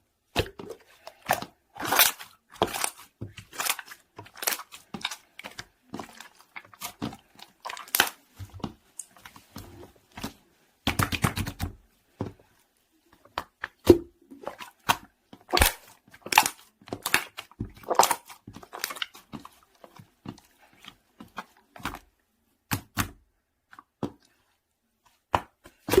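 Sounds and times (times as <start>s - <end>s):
slime squelching and popping: 0.3s - 11.8s, 13.2s - 22.0s, 25.3s - 26.0s.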